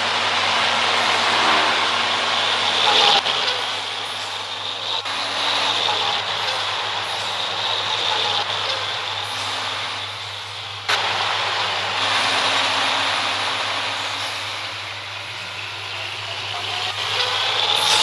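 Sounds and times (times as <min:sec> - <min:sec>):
truck engine hum: 0:00.0 - 0:18.0
tyre and road noise: 0:00.0 - 0:18.0.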